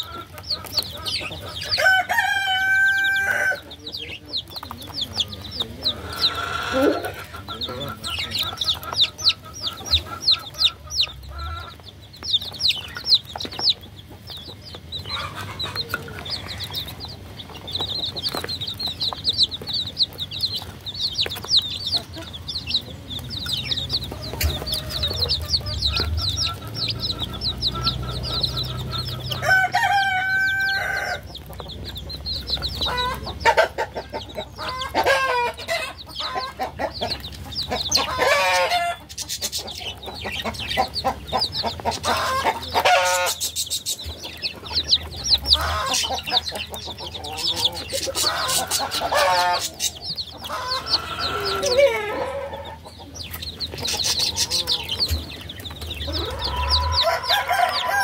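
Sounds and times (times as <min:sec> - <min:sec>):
baby chicks peeping: 0:00.0 - 0:58.0
drawn-out chicken call: 0:00.0 - 0:58.0.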